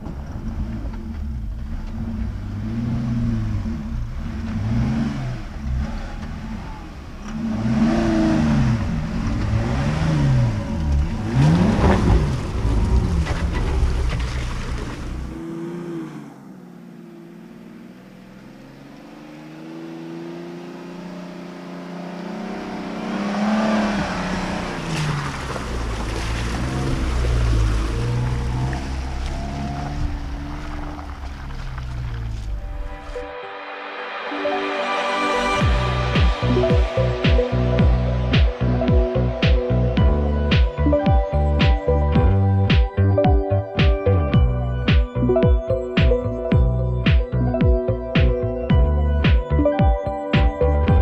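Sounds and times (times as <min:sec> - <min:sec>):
suv engines revving: 0:00.0 - 0:33.2, 0:35.4 - 0:49.7.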